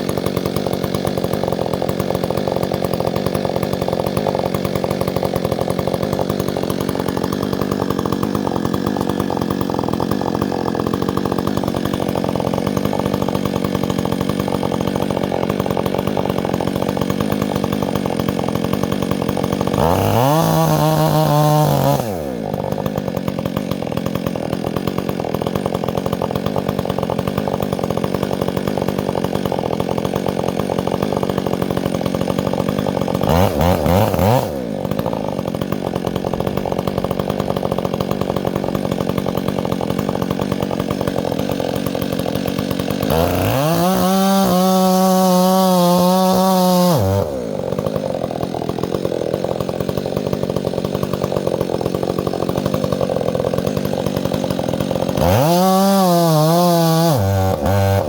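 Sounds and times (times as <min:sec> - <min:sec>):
chainsaw running and revving: 0:00.0 - 0:58.0.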